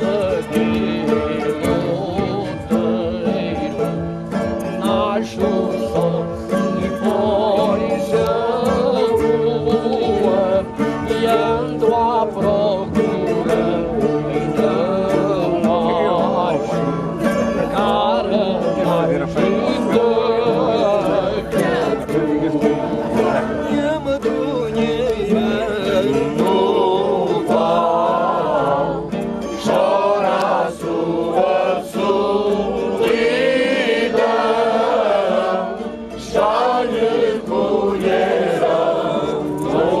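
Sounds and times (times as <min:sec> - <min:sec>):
group of voices singing: 0:00.0 - 0:40.0
instrumental accompaniment: 0:00.0 - 0:40.0.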